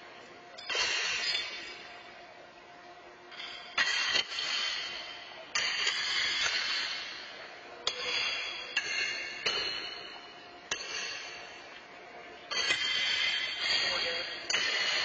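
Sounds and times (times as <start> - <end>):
horseshoes clanging on steel stakes: 0.6 - 1.9, 3.4 - 11.6, 12.5 - 15.0.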